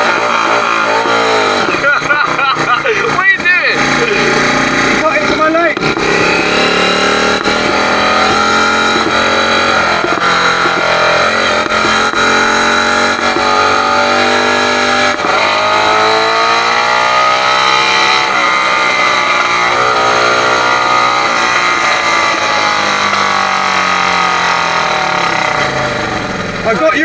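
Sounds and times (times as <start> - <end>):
motorcycle engine revving through gears: 0.0 - 27.0.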